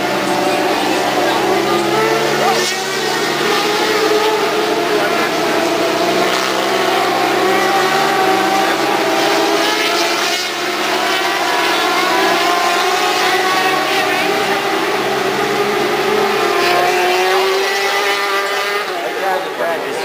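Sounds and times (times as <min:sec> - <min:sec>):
racing motorcycle engines at high revs: 0:00.0 - 0:20.0.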